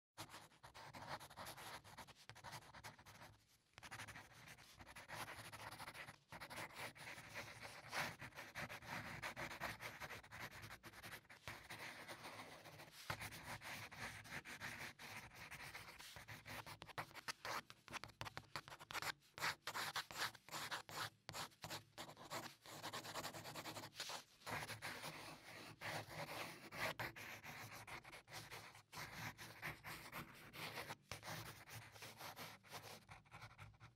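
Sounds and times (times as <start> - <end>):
pen scratching on paper: 0.2 - 33.9.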